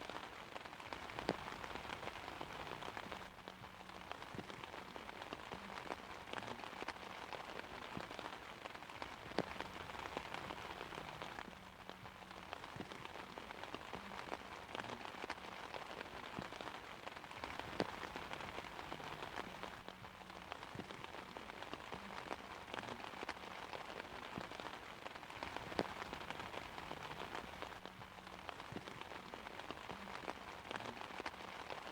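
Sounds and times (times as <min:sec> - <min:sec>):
rain pattering on umbrella: 0:00.0 - 0:31.9.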